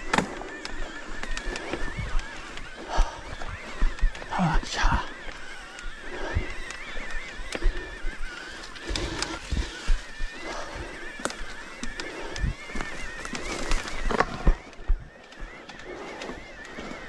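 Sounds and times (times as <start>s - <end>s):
bike frame and wheels rattling: 0.0s - 17.0s.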